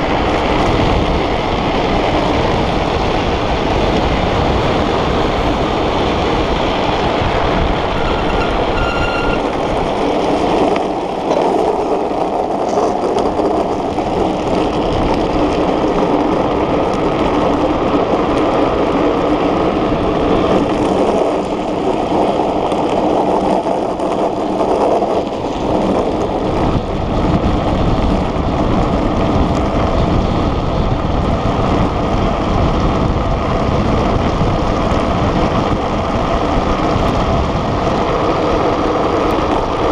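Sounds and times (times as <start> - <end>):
wheels rumbling on asphalt: 0.0 - 39.9
wind rushing over microphone: 0.0 - 39.9.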